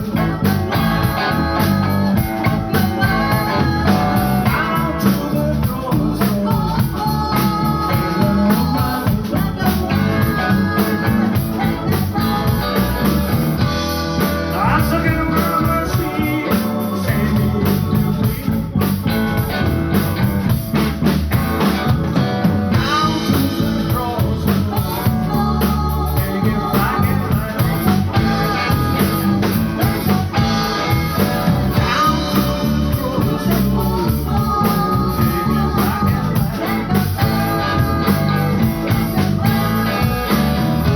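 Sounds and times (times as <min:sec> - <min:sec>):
blues-rock band with guitar and drums: 0:00.0 - 0:40.9.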